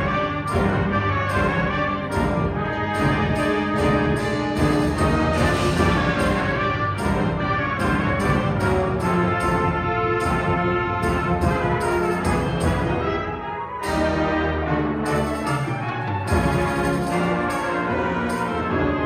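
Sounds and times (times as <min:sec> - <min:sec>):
brass and woodwind chords: 0:00.0 - 0:19.0
sharp percussion hits: 0:00.5 - 0:13.0, 0:15.1 - 0:19.0.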